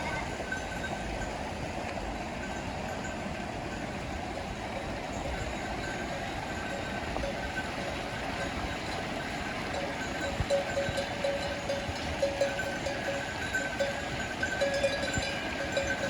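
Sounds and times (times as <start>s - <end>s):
faint livestock bells ringing: 0.0s - 16.0s.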